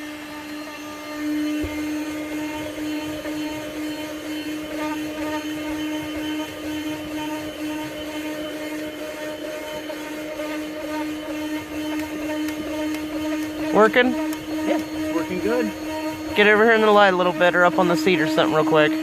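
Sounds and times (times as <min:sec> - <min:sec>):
handheld vacuum running: 0:00.0 - 0:19.0.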